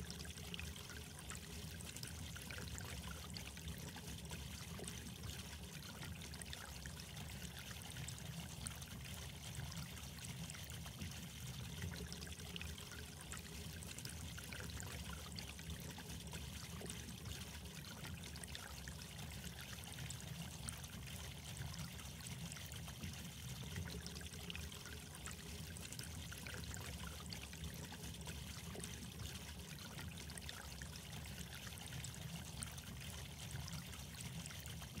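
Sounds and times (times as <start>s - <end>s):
water trickling: 0.0s - 35.0s.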